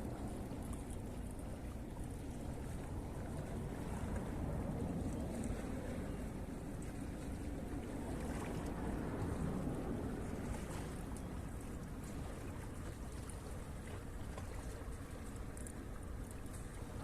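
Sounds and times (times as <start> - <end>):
sea noise: 0.0 - 17.0
wind: 0.0 - 17.0
wind rumble on microphone: 0.0 - 17.0.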